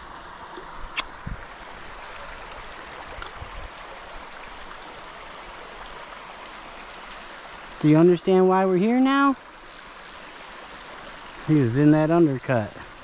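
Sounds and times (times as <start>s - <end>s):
stream flowing over pebbles: 0.0s - 13.0s.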